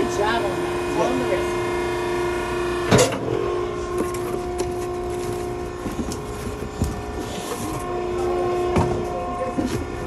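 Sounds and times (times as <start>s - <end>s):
hydraulic power unit humming: 0.0s - 10.0s.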